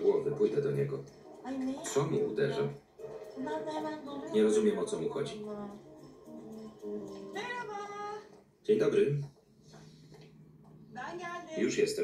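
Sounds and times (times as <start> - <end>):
dialogue: 0.0 - 12.0
television soundtrack music: 0.0 - 12.0.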